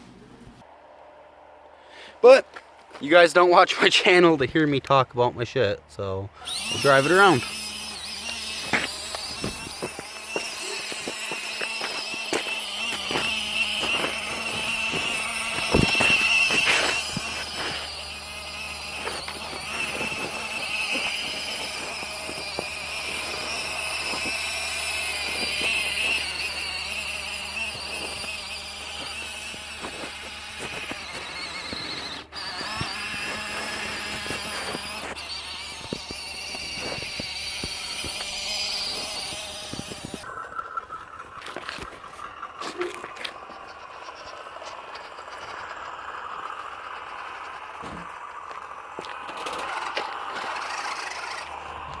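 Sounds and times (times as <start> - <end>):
tyres crackling over rough ground: 2.2 - 52.0
rc truck motor whining: 6.0 - 52.0.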